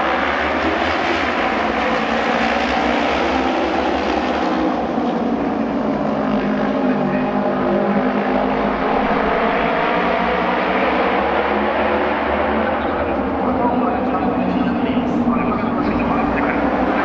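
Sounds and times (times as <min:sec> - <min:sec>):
racing motorcycles engine drone: 0:00.0 - 0:17.0.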